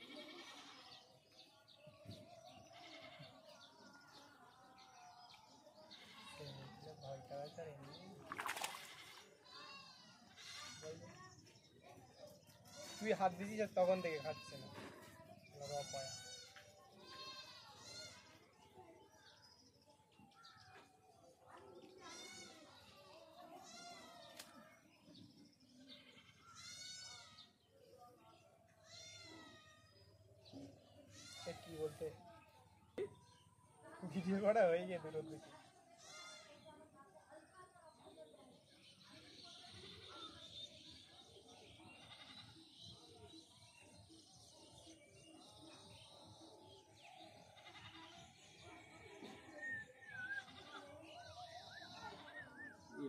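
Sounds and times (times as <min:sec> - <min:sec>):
faint distant voices: 0:00.0 - 0:53.0.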